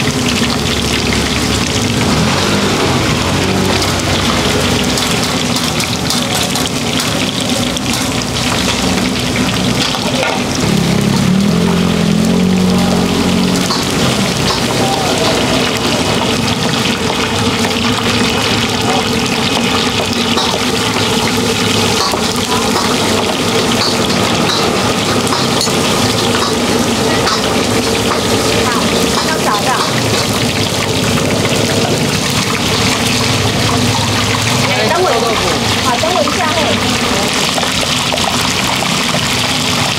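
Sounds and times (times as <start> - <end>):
tofu sizzling in hot oil: 0.0 - 39.9.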